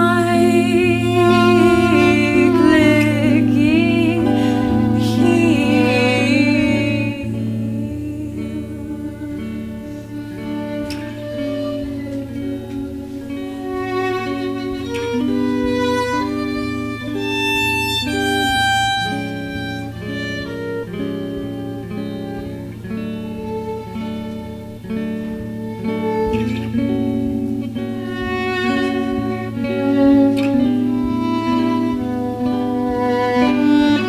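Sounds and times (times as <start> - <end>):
guitar chords: 0.0 - 34.0
violin: 0.0 - 34.0.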